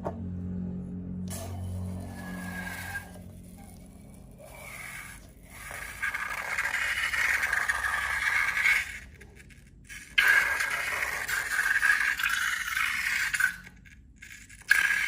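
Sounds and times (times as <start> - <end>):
slime being scraped and stirred: 1.9 - 15.0.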